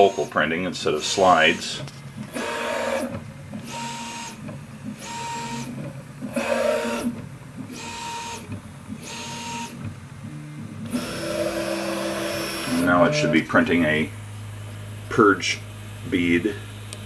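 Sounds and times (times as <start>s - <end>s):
stepper motors whining: 0.0s - 14.2s.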